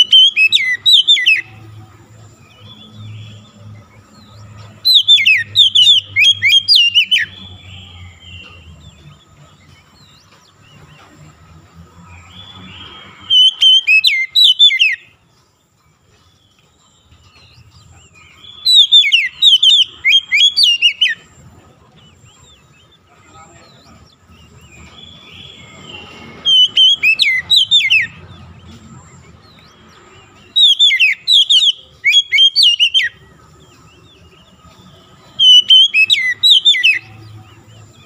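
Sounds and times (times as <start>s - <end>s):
bird singing high sweeping notes: 0.0s - 38.0s.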